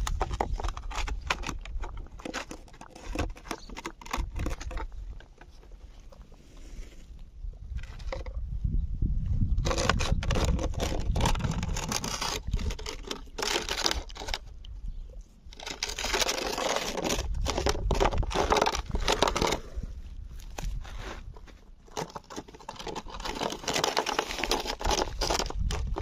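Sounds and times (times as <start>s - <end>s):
crinkling and scraping noise: 0.0s - 26.0s.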